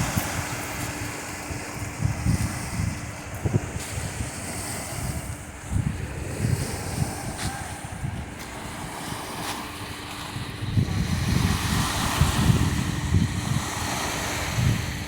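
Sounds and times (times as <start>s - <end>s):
sea surf washing onto shore: 0.0s - 15.0s
wind rumbling on microphone: 0.0s - 15.0s.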